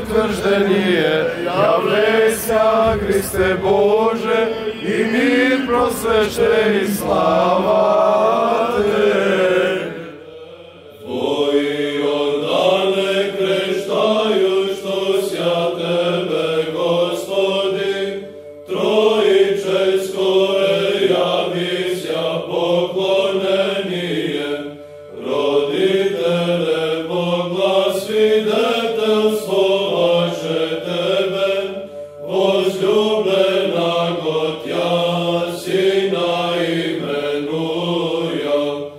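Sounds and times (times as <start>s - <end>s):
voices singing liturgical chant: 0.0s - 38.9s.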